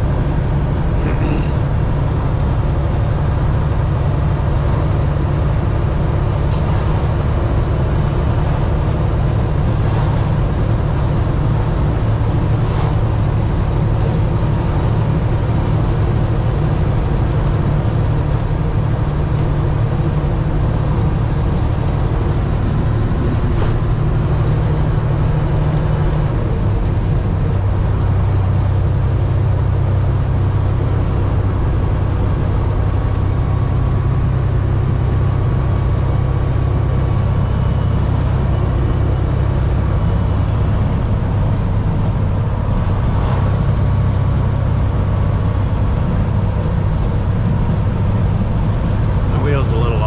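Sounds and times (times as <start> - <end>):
road noise: 0.0 - 50.0
truck diesel engine droning: 0.0 - 50.0.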